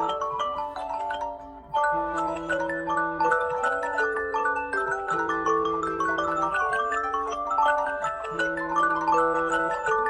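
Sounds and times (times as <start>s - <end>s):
marimba-like alarm melody: 0.0s - 10.0s.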